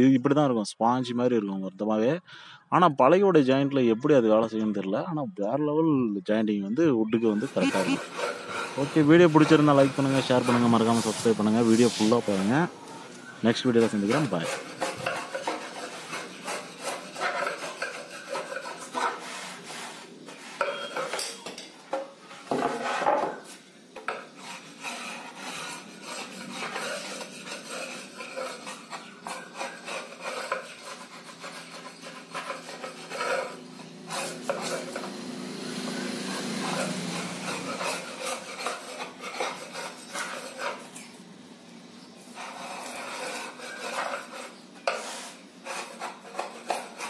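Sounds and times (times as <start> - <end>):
wood chisel scraping paste: 7.2 - 41.2, 42.2 - 47.0.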